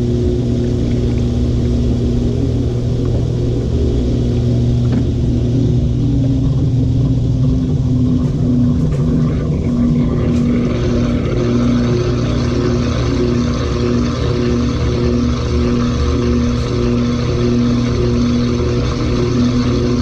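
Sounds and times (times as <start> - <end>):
pulsing whine: 0.0 - 20.0
washing machine spinning: 0.0 - 20.0.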